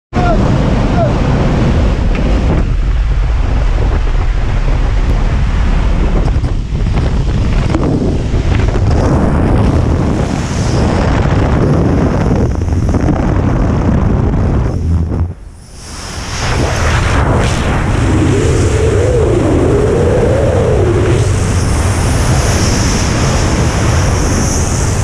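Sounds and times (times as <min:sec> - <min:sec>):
wind buffeting microphone: 0:00.1 - 0:25.0
plane engine and propeller: 0:00.2 - 0:25.0.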